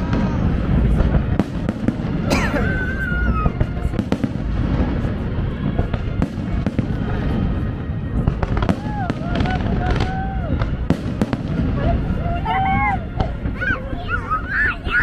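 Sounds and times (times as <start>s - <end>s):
deep rumble of fireworks booms: 0.0s - 15.0s
fireworks crackling bangs: 0.0s - 15.0s.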